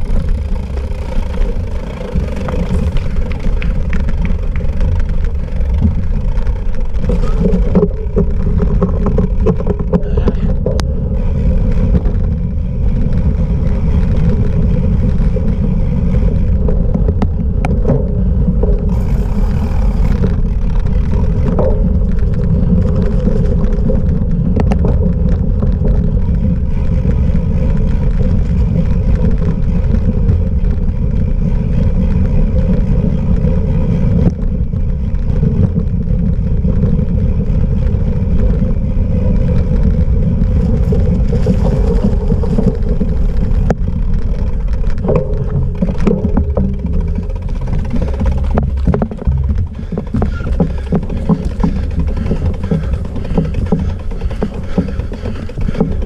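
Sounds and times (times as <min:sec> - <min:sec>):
bike rolling off-road: 0:00.0 - 0:56.0
sharp bike rattles: 0:00.0 - 0:56.0
wind rumbling on microphone: 0:00.0 - 0:56.0.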